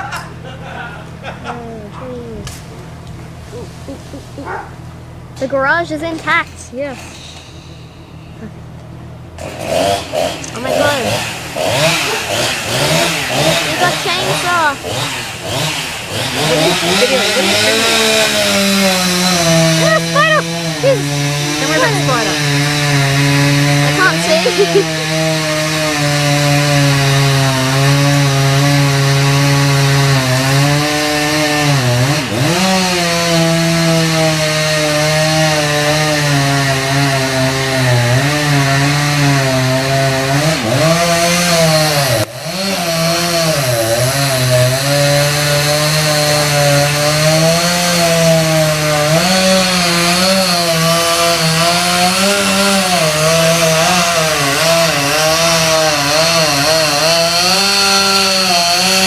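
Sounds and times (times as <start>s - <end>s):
chainsaw cutting wood: 9.3s - 59.0s.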